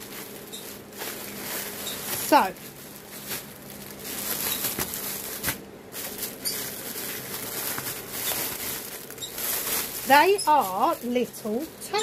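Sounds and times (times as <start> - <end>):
plastic wrapping rustling: 0.0 - 12.0.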